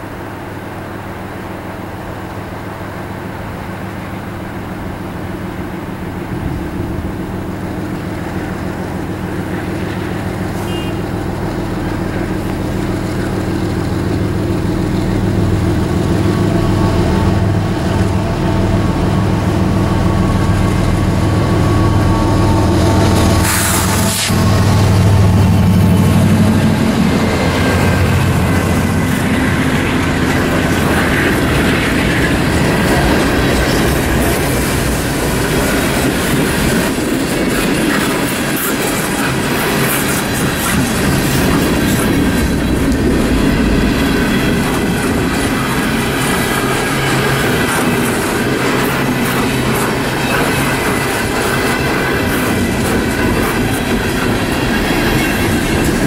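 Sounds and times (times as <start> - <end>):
locomotive engine hum: 0.0 - 56.0
train wheels clacking: 7.5 - 56.0.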